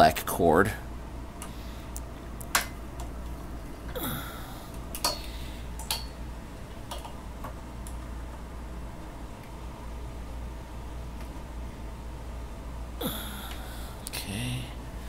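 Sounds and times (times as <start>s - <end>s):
equipment humming: 0.0s - 15.0s.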